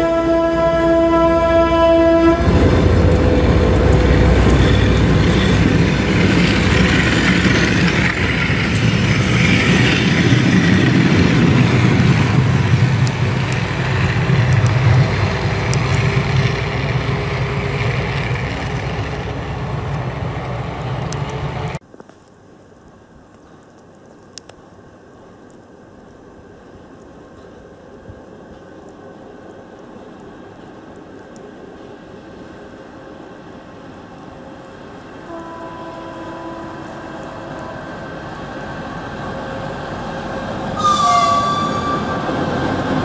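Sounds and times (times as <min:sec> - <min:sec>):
train wheels rumbling on rails: 0:00.0 - 0:21.8, 0:26.4 - 0:43.0.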